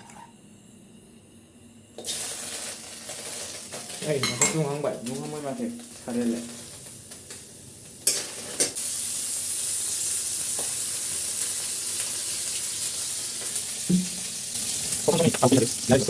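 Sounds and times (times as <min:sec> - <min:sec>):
food sizzling in a pan: 0:02.0 - 0:16.0.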